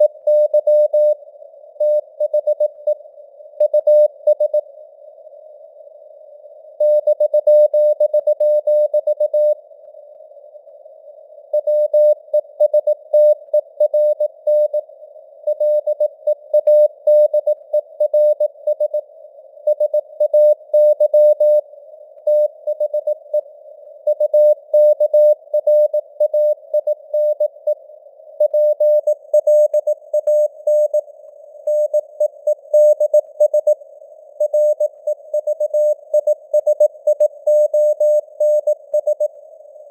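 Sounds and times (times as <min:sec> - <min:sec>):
faint radio hiss: 0:00.0 - 0:07.0, 0:09.4 - 0:39.9.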